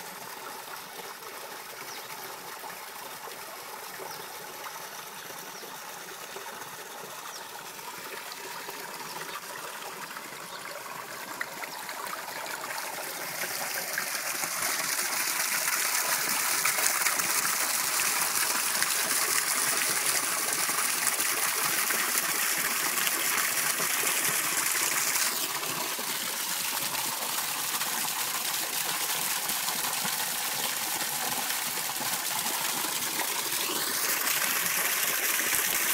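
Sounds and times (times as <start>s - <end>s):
running water trickling: 0.0s - 35.9s.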